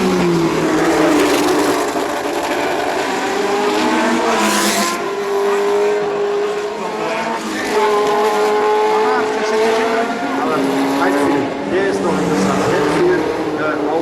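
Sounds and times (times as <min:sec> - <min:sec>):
racing engines at high revs: 0:00.0 - 0:14.0.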